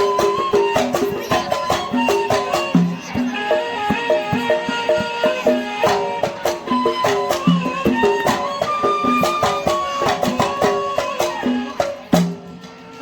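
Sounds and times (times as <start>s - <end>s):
hand-drum beats: 0.0s - 13.0s
plucked-string melody: 0.0s - 13.0s.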